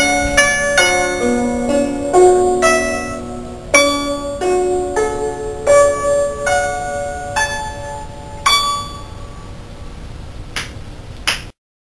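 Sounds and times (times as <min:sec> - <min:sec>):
guzheng plucked: 0:00.0 - 0:10.0.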